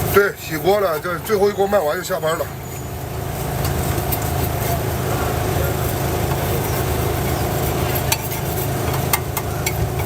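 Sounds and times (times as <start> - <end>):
street food stall rumble and hiss: 0.0 - 10.0.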